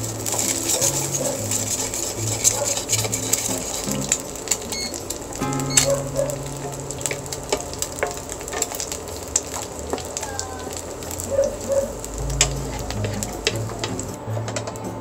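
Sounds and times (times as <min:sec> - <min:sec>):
spatula scraping in pan: 0:00.0 - 0:10.2, 0:10.8 - 0:14.2
egg sizzling in hot oil: 0:00.0 - 0:14.2
oil popping and crackling: 0:00.0 - 0:14.8.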